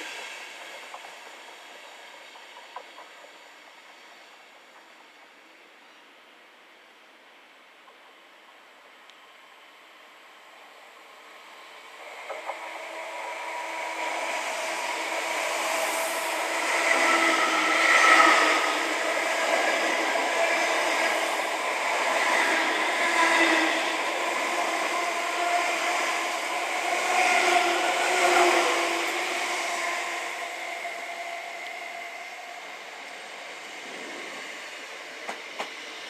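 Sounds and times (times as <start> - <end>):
train rumbling past: 0.0 - 6.6, 7.6 - 36.0.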